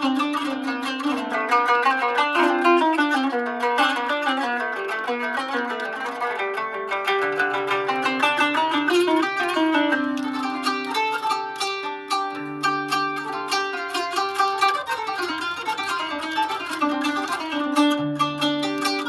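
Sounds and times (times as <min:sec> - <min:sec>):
plucked zither playing: 0:00.0 - 0:19.0.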